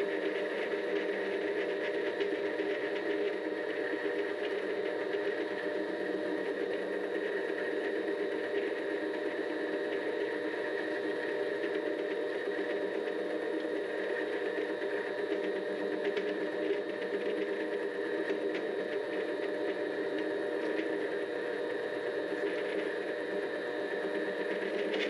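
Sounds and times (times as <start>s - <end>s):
lathe motor and gear hum: 0.0s - 25.0s.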